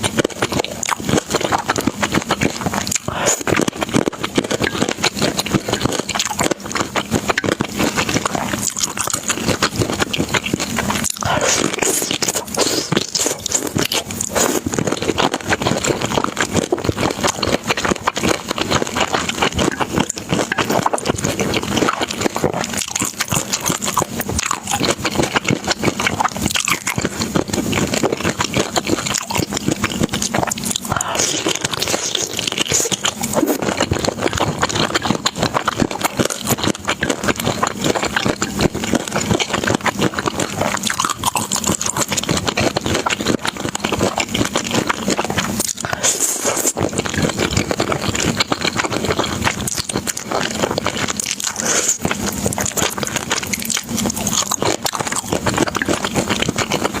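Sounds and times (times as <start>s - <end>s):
chewing with crackly clicks: 0.0s - 57.0s.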